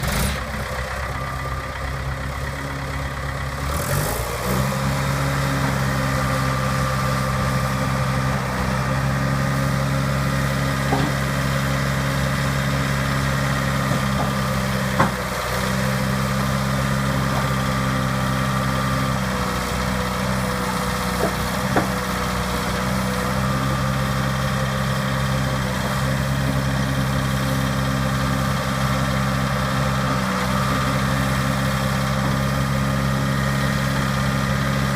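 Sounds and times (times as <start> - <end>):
dozer diesel engine running: 0.0 - 34.9.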